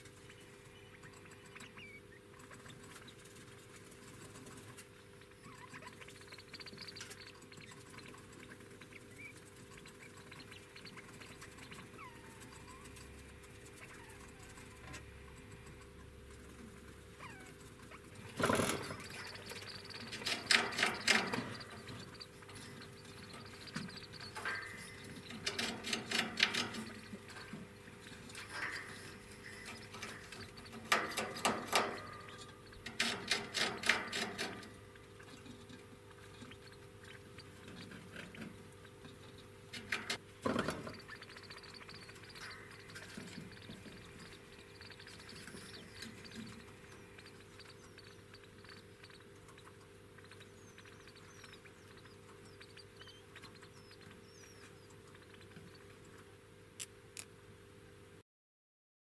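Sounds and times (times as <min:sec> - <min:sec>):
degus clicking chatter: 0:00.0 - 0:40.2, 0:40.8 - 0:57.3
faint steady hum: 0:00.0 - 0:58.2.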